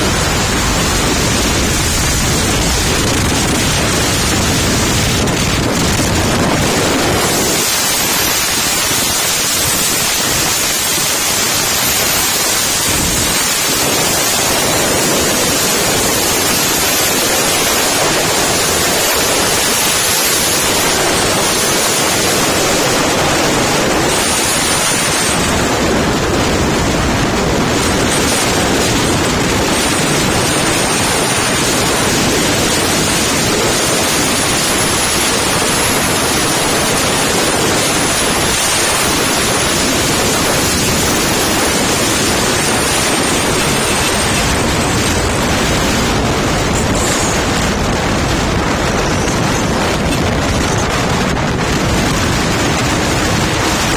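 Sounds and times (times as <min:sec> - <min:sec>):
wind noise on microphone: 0:00.0 - 0:53.9.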